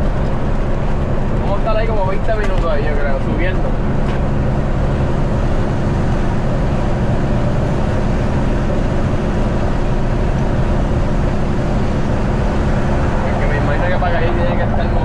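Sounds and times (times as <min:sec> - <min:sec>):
diesel truck engine running: 0:00.0 - 0:15.0
road noise: 0:00.0 - 0:15.0.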